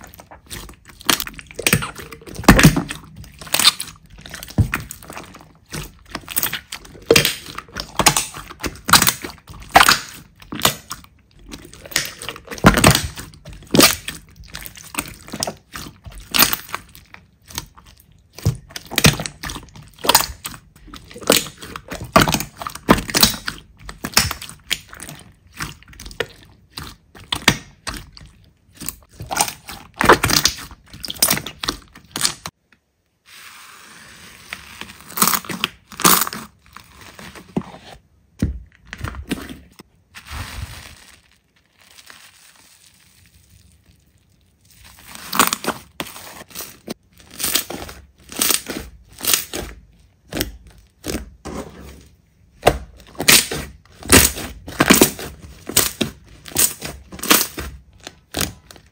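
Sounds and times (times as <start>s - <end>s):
slime crackling and popping: 0.0s - 32.6s, 38.9s - 51.4s, 52.5s - 58.9s.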